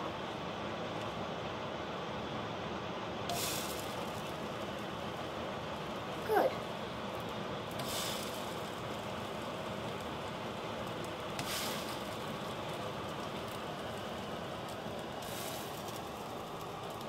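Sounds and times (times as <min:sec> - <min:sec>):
pancakes sizzling in a pan: 0:03.3 - 0:17.0.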